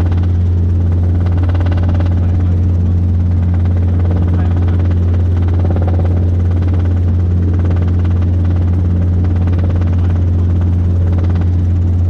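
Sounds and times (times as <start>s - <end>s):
helicopter engine and rotor drone: 0.0s - 12.0s
steady hum tones: 0.0s - 12.0s.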